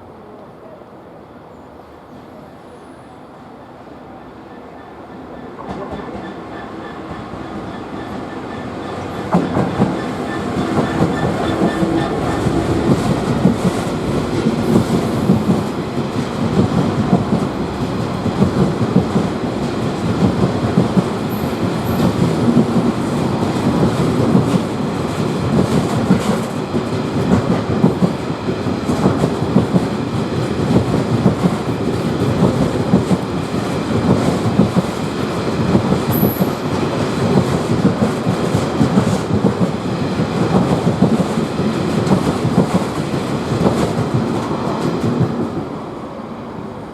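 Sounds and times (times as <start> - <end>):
train wheels clattering over rails: 5.4 - 45.7.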